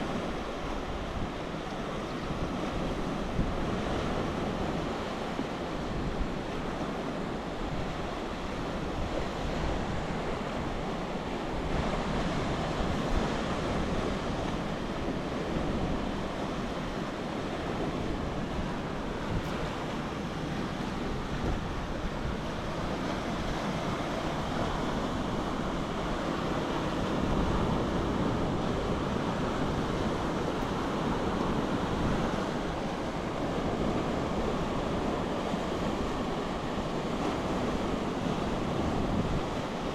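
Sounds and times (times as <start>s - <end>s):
sea waves washing onto shore: 0.0s - 39.9s
wind buffeting microphone: 0.0s - 39.9s.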